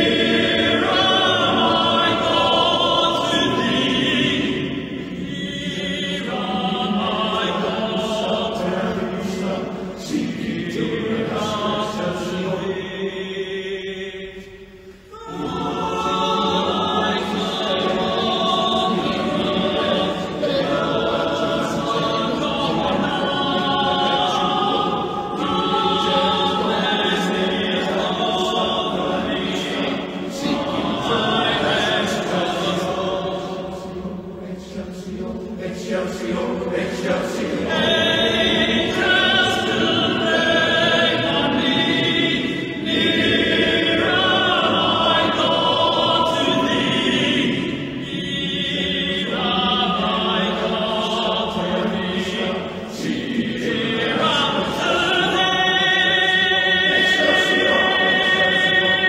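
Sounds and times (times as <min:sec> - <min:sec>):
choir singing long notes: 0:00.0 - 0:59.0.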